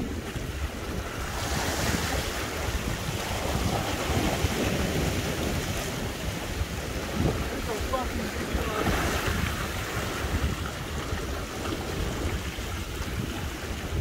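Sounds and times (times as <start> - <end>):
sea waves washing against rocks: 0.0 - 14.0
wind buffeting microphone: 0.0 - 14.0.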